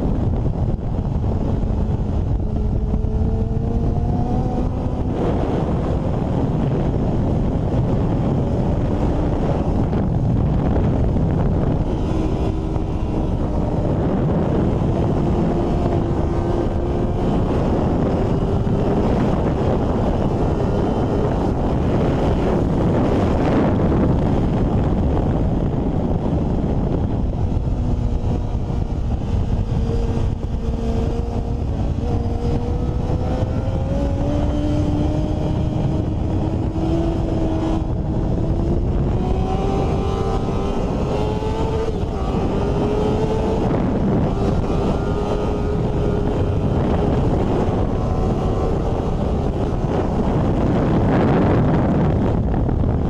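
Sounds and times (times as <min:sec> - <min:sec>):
motorcycle engine accelerating: 0:00.0 - 0:53.0
wind rushing over microphone: 0:00.0 - 0:53.0.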